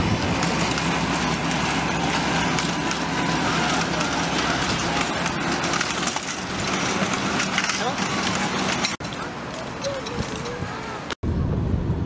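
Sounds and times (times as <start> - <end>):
train wheels rattling on rail: 0.0 - 11.1.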